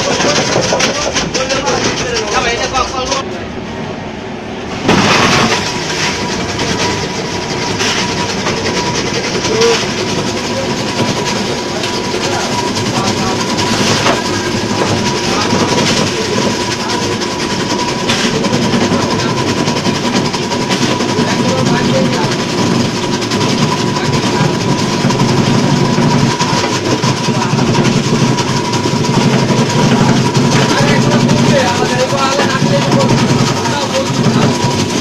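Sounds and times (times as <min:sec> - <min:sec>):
ice crusher grinding: 0:00.0 - 0:03.2, 0:04.9 - 0:35.0.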